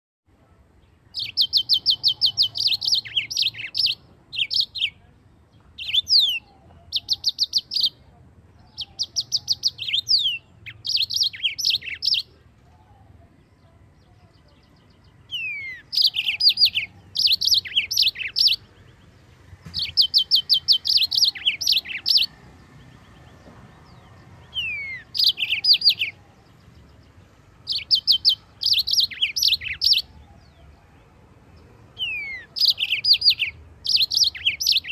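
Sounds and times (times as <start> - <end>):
canary singing trilled phrases: 1.0 - 5.0, 5.8 - 23.1, 23.9 - 30.8, 31.8 - 34.9.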